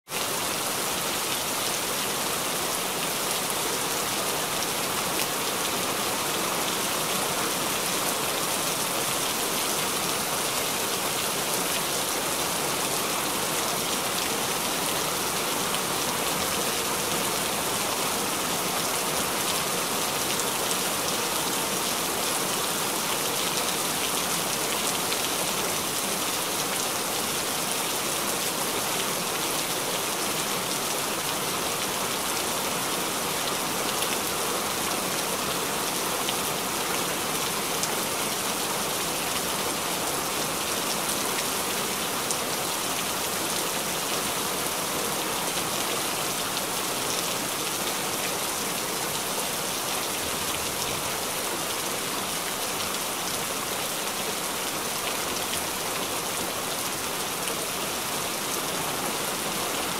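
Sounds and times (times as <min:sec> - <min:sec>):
heavy rain falling: 0:00.1 - 0:59.9.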